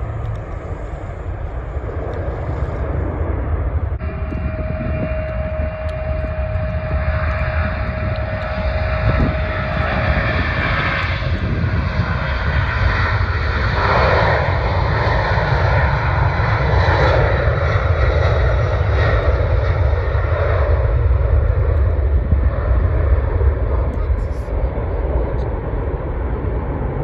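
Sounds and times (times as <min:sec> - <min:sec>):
jet engines at takeoff thrust: 0:00.0 - 0:27.0.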